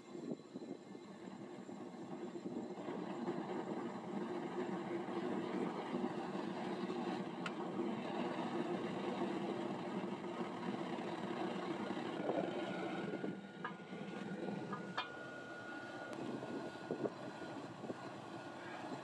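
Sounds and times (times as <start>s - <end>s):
furnace burner roaring: 0.0s - 19.0s.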